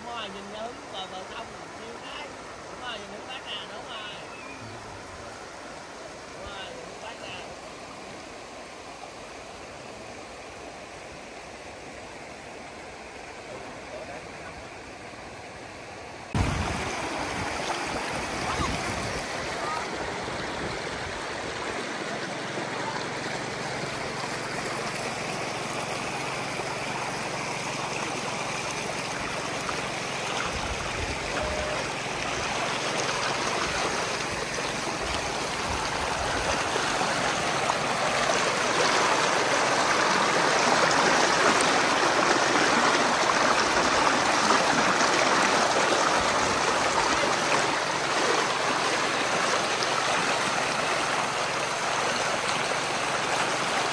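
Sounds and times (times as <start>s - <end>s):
stream rushing over stones: 0.0s - 53.9s.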